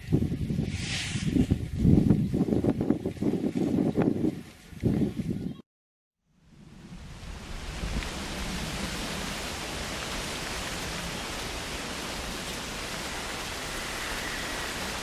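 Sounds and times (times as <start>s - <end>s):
wind rushing: 0.0s - 5.3s, 6.6s - 15.0s.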